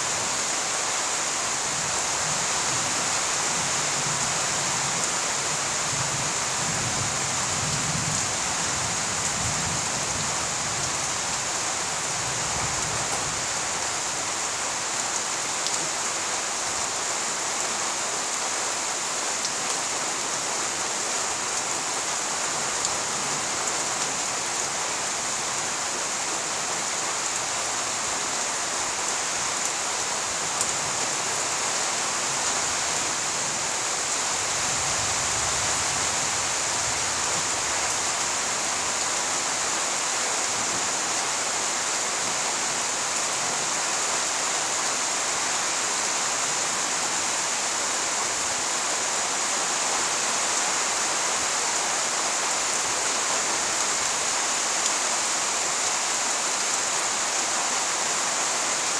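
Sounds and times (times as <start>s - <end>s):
rain on leaves and ground: 0.0s - 58.9s.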